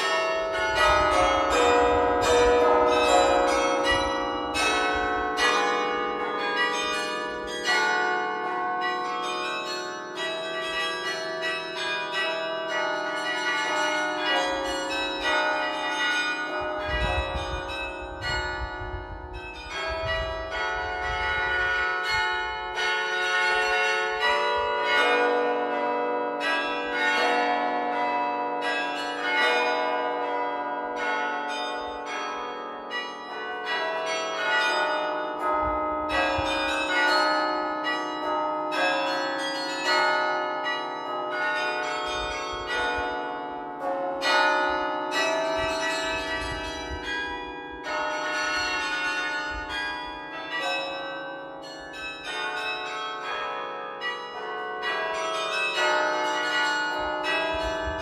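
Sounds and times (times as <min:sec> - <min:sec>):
carillon bells melody: 0:00.0 - 0:58.0.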